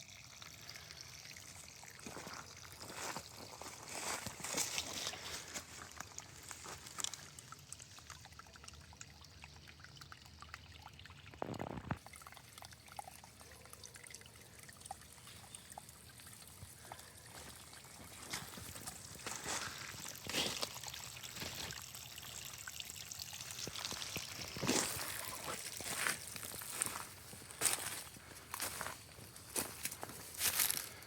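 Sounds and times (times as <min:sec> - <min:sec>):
water trickling faintly: 0:00.0 - 0:31.0.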